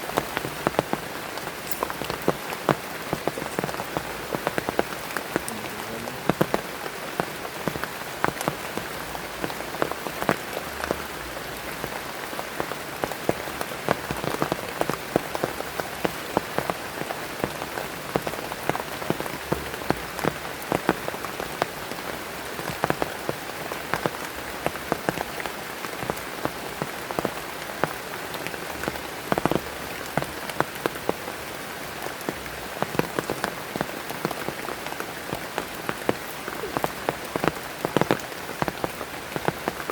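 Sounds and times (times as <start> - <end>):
heavy rain: 0.0 - 39.9
raindrops hitting a surface: 0.0 - 39.9.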